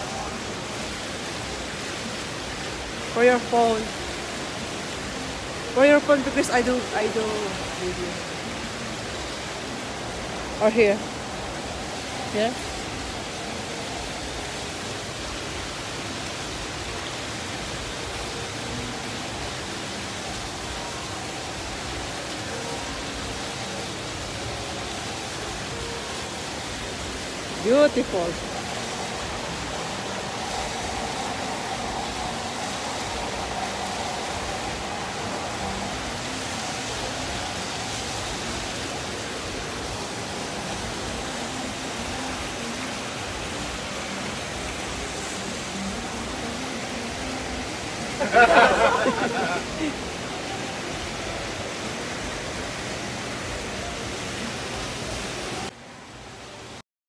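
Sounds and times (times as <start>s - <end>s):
fountain water splashing into basin: 0.0s - 56.8s.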